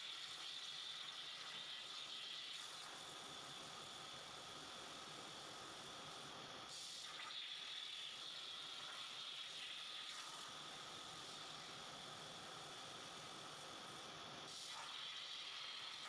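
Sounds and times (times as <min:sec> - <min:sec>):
faint steady hiss: 0:00.0 - 0:16.0
plasma torch hissing: 0:00.4 - 0:16.0.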